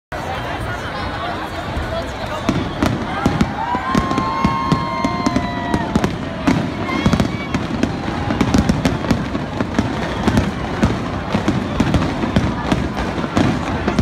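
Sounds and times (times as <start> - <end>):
crowd noise: 0.1 - 14.0
fireworks bangs and crackles: 1.4 - 14.0.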